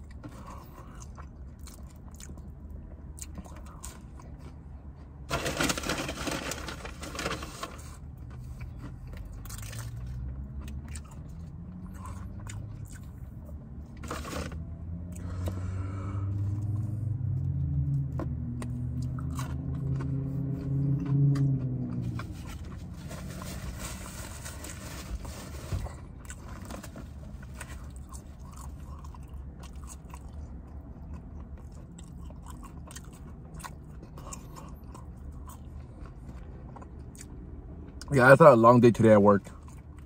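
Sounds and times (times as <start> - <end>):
chewing and crunching food: 0.0 - 38.2, 39.4 - 40.0
low vehicle engine hum: 0.0 - 40.0.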